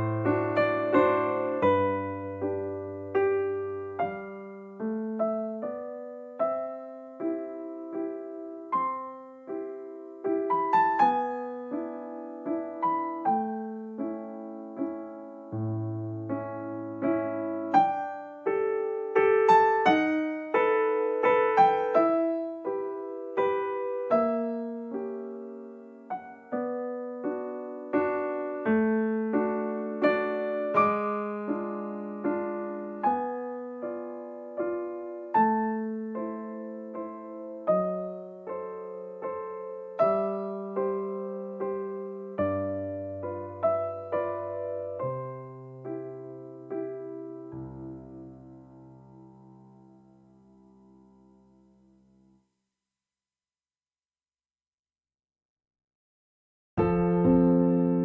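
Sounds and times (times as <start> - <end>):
solo piano: 0.0 - 52.7, 56.8 - 58.0.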